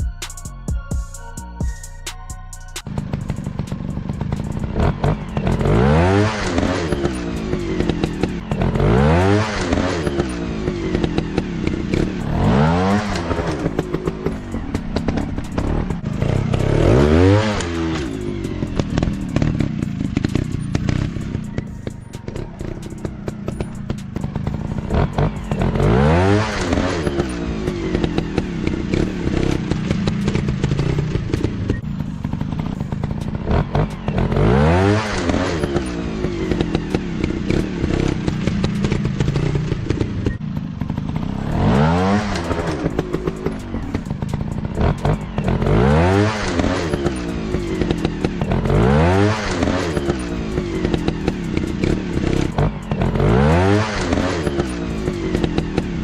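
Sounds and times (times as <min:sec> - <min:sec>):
dirt bike engines revving: 0:02.8 - 0:56.0.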